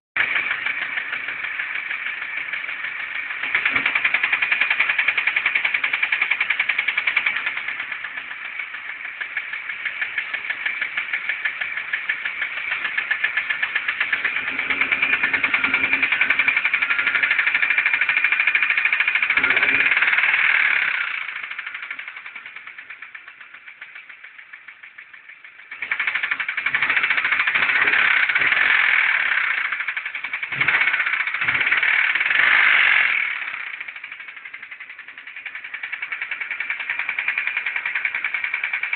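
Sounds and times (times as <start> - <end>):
fast even engine knock: 0.2 - 38.9
petrol engine running: 0.2 - 38.9.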